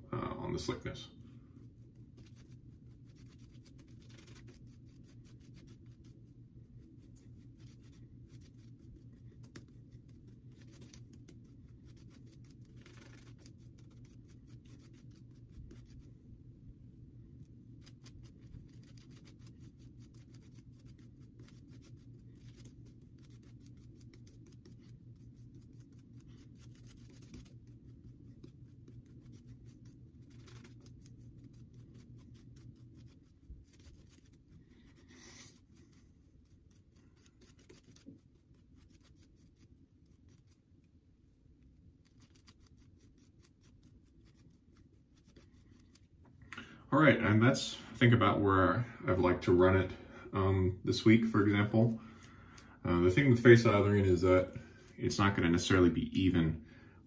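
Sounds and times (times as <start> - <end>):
shaving brush scratchy brushing: 0.4 - 16.3, 17.2 - 41.0, 41.7 - 46.4, 47.0 - 50.0, 50.9 - 56.5.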